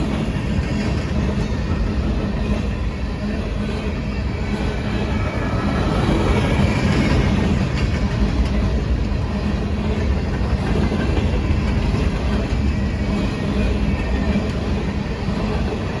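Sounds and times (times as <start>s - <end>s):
clickety-clack of rail joints: 0.0s - 16.0s
train wheels rumbling on rails: 0.0s - 16.0s.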